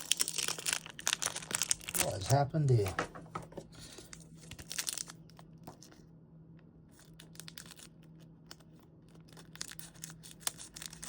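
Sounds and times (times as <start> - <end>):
foil wrapper crinkling: 0.0 - 3.1, 3.8 - 6.0, 7.0 - 11.0.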